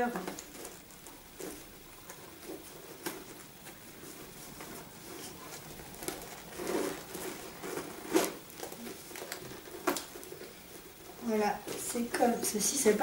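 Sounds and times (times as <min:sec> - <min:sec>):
handbag rustling: 0:00.0 - 0:13.0.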